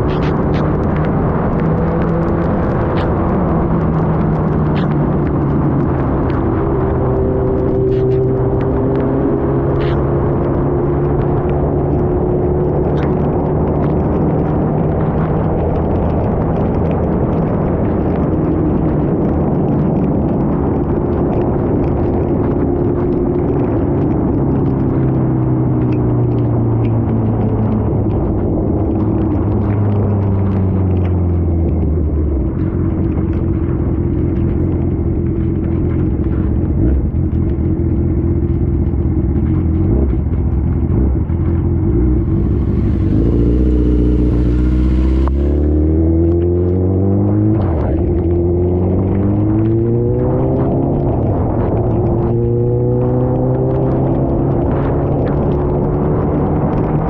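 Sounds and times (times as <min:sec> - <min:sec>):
motorcycle engine at low revs: 0:00.0 - 0:57.0
wind and rain noise: 0:00.0 - 0:57.0.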